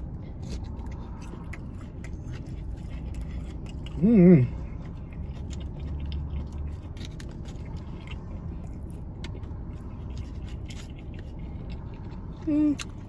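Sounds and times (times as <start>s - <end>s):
chewing crispy fried chicken: 0.0s - 13.0s
low steady hum: 0.0s - 13.0s.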